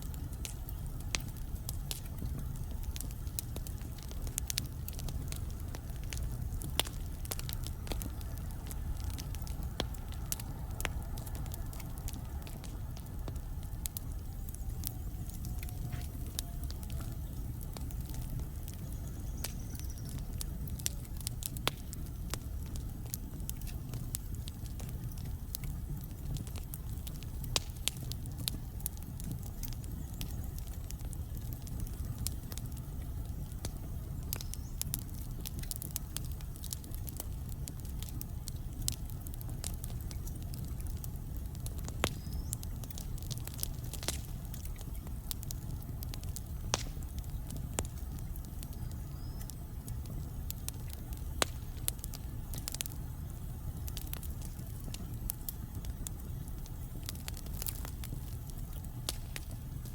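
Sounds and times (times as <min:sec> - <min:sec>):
logs crackling and popping: 0:00.0 - 0:59.9
low rumble of fire: 0:00.0 - 0:59.9.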